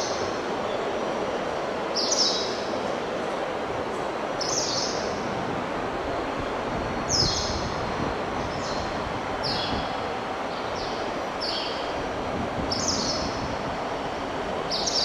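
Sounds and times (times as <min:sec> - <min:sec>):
train rumble and hiss: 0:00.0 - 0:15.0.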